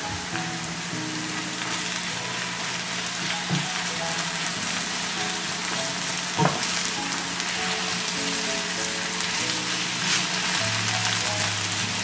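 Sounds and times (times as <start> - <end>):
onion and garlic sizzling in pan: 0.0 - 12.0.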